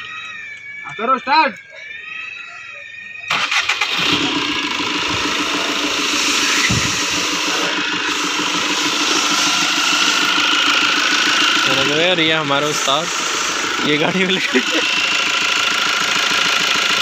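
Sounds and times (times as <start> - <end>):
car engine idling: 3.3 - 17.0
car engine starter cranking: 3.3 - 17.0.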